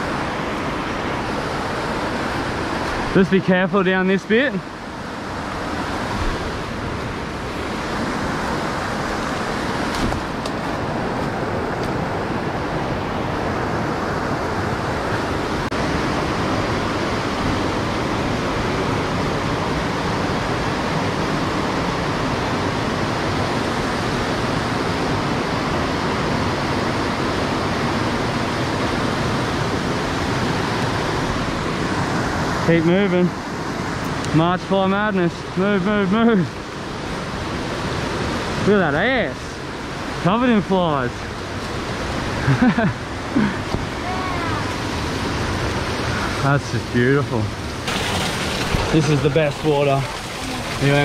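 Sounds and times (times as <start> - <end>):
river rapids rushing: 0.0 - 35.7, 36.3 - 51.0.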